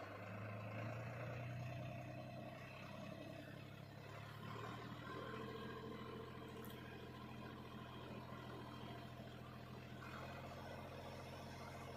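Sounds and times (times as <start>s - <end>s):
tractor diesel engine running: 0.0s - 11.9s.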